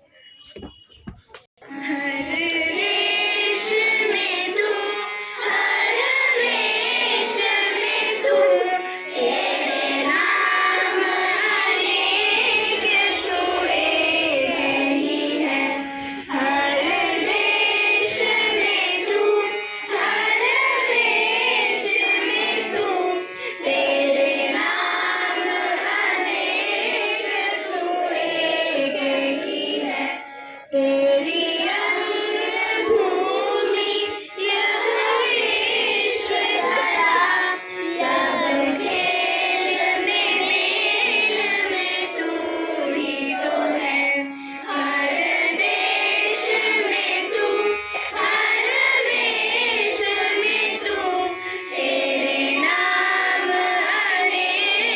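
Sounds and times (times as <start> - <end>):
children singing: 1.6 - 54.9
musical accompaniment: 1.6 - 54.9.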